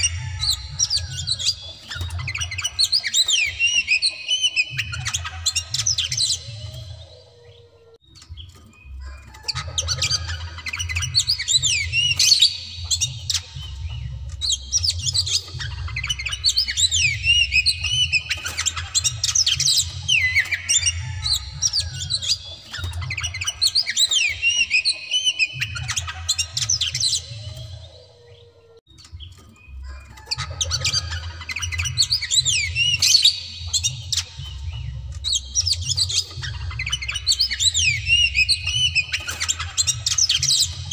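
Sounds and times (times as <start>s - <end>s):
bird singing whistles and clicks: 0.0s - 7.2s, 8.0s - 28.2s, 28.8s - 40.9s.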